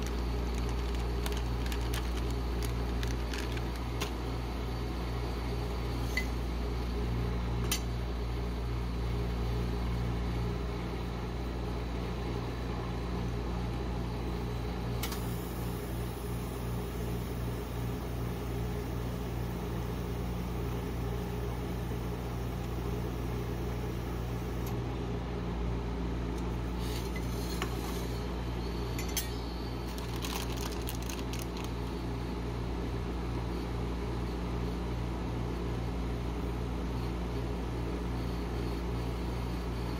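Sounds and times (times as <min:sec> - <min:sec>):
refrigeration unit humming: 0:00.0 - 0:39.9.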